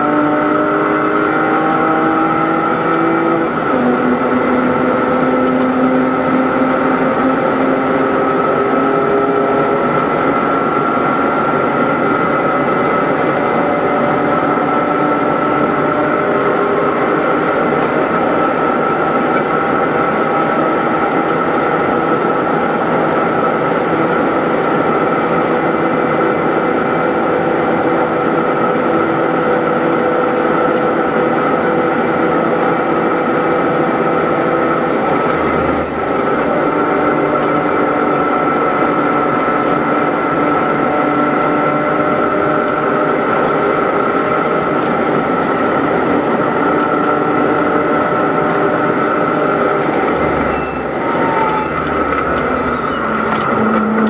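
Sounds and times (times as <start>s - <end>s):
car engine under full throttle: 0.0s - 54.0s
wind and road noise: 0.0s - 54.0s.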